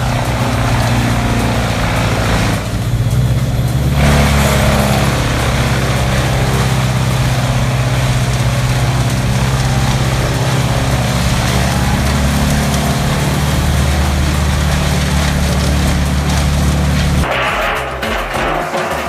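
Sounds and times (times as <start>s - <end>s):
diesel engine hum: 0.0s - 17.3s
wood chipper rushing noise: 0.0s - 19.0s.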